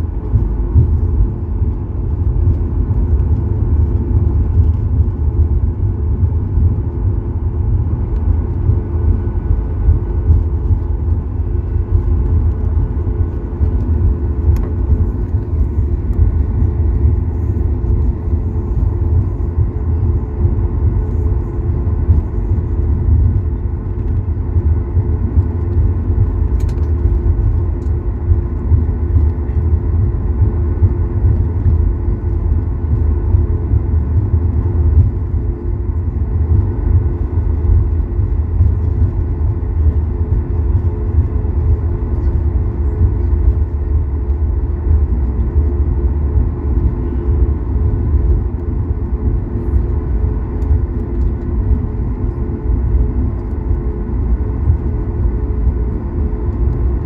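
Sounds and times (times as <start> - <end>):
airplane cabin rumble while taxiing: 0.0 - 57.0.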